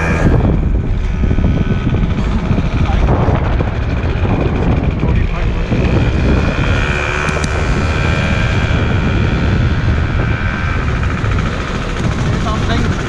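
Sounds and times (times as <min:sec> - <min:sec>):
small engine running: 0:00.0 - 0:13.0
steady high whine: 0:00.0 - 0:13.0
wind buffeting microphone: 0:00.0 - 0:13.0.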